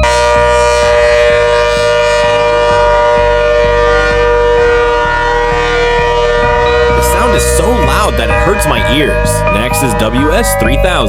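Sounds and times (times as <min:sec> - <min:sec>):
warning siren steady two-pitch tone: 0:00.0 - 0:11.0.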